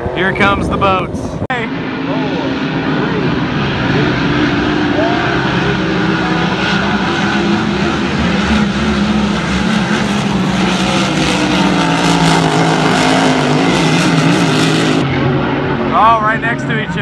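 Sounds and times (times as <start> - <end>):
racing boat engines droning: 0.0 - 17.0.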